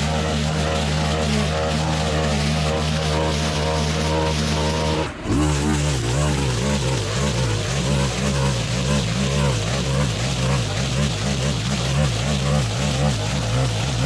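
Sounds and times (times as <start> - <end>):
brushcutter engine cutting grass: 0.0 - 14.0.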